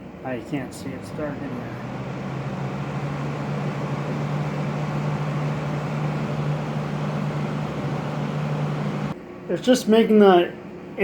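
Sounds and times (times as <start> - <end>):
fan blowing air with hum: 0.0 - 11.0.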